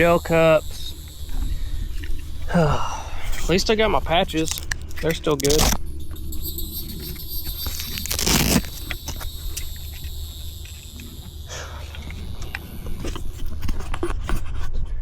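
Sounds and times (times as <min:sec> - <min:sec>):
high insect-like drone: 0:00.0 - 0:14.3
low hum: 0:00.0 - 0:14.6.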